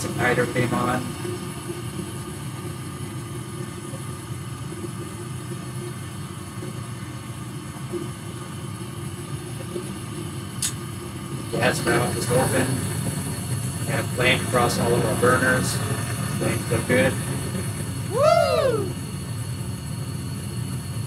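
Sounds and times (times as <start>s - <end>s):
furnace fan humming: 0.0s - 21.0s.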